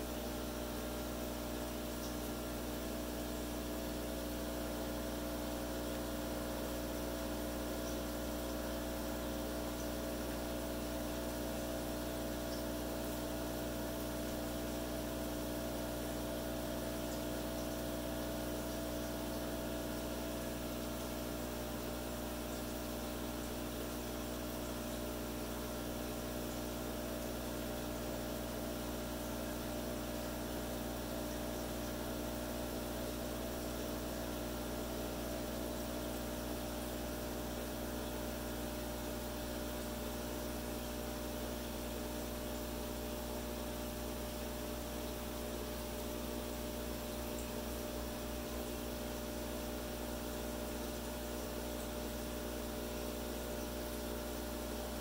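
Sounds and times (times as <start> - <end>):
aquarium pump humming with hiss: 0.0 - 55.0.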